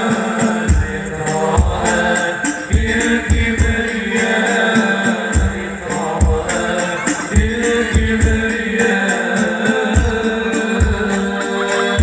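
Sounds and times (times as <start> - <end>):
deep drum beats: 0.0 - 12.0.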